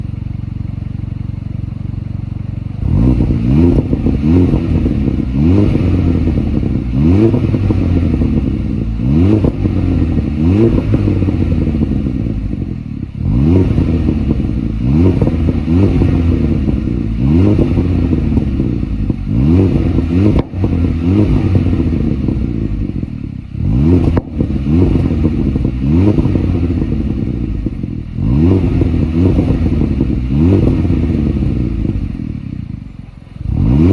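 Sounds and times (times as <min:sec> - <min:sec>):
car engine idling: 0:00.0 - 0:33.9
exhaust cracks: 0:00.0 - 0:33.9
car engine revving: 0:00.9 - 0:33.9.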